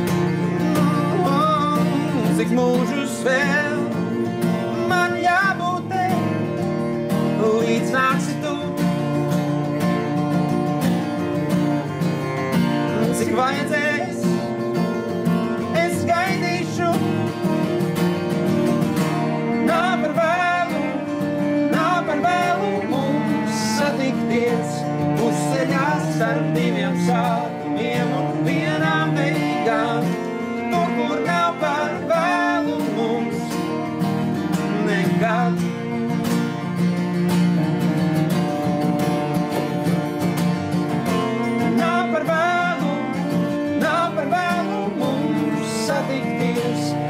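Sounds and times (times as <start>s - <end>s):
person singing: 0.0s - 9.7s, 12.8s - 36.1s, 41.0s - 47.0s
acoustic guitars strumming: 0.0s - 47.0s
cello melody: 0.0s - 47.0s.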